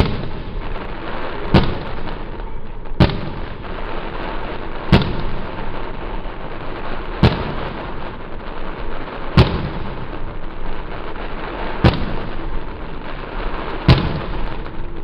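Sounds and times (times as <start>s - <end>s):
background noise: 0.0s - 15.0s
fireworks bangs: 0.0s - 15.0s.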